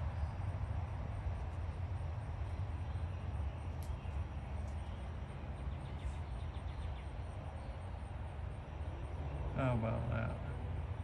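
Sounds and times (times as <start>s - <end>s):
distant highway traffic rumble: 0.0s - 11.0s.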